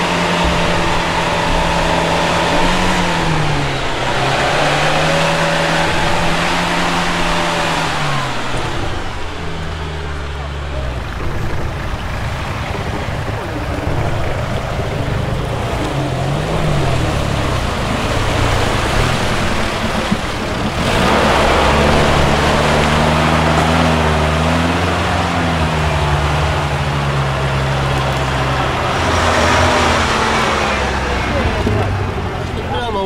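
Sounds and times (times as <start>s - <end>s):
off-road vehicle engine revving: 0.0s - 33.0s
rush of noise: 0.0s - 33.0s.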